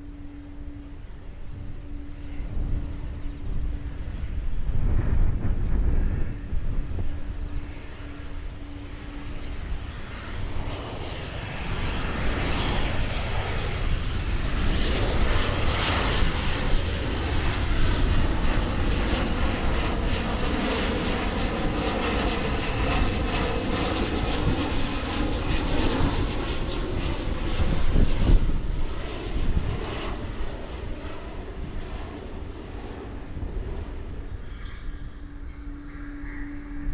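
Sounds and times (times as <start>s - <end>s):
jet airliner flying overhead: 0.0s - 36.9s.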